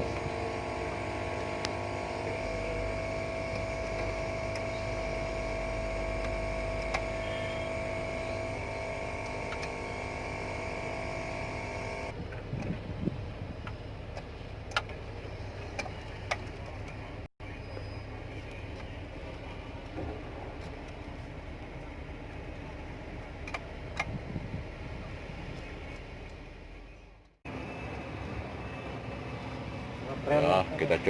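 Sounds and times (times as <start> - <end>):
excavator humming and whining: 0.0 - 31.0.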